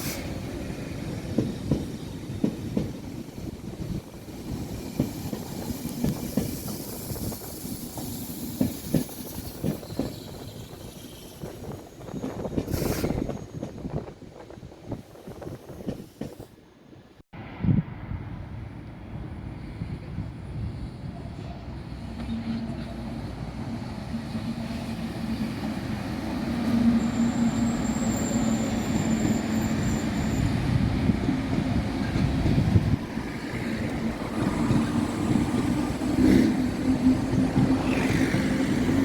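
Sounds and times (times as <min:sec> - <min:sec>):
train running by: 0:00.0 - 0:17.1, 0:18.0 - 0:39.0.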